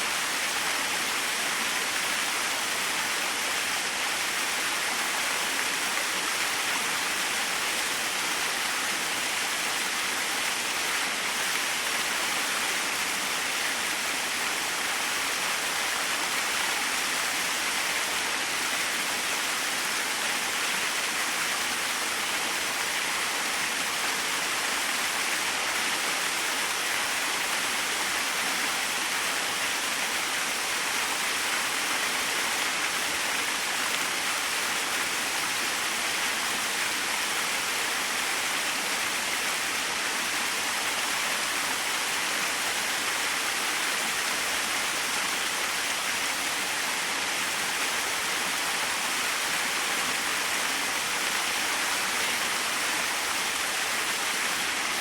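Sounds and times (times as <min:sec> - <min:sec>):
small waterfall rushing: 0:00.0 - 0:55.0.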